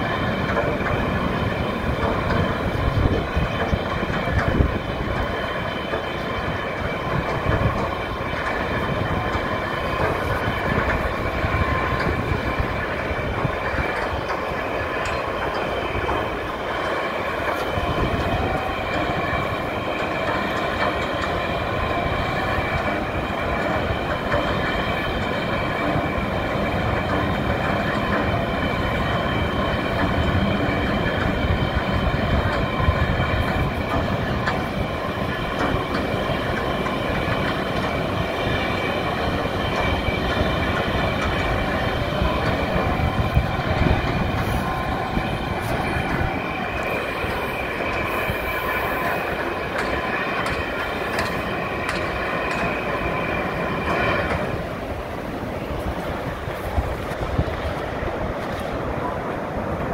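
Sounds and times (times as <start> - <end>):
high steady whine: 0.0 - 59.9.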